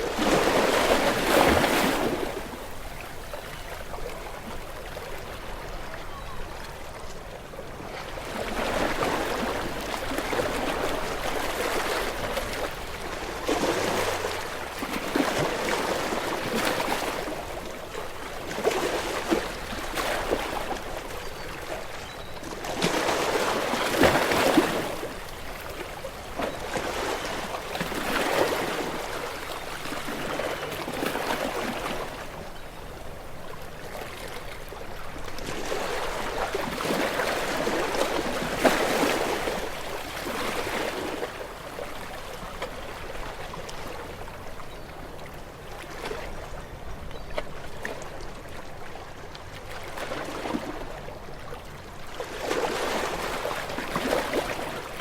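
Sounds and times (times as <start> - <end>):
ocean waves breaking: 0.0 - 6.0, 7.8 - 55.0.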